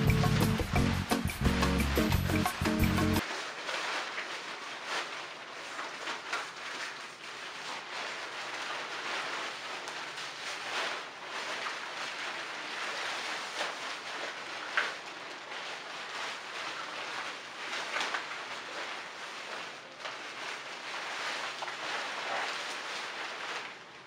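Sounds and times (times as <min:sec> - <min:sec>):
nylon fabric rustling and crinkling: 0:00.0 - 0:24.0.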